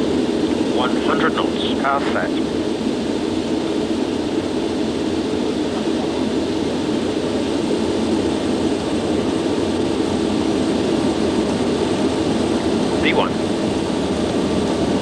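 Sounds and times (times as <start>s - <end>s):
jet engines roaring: 0.0s - 15.0s
runway rumble: 0.0s - 15.0s.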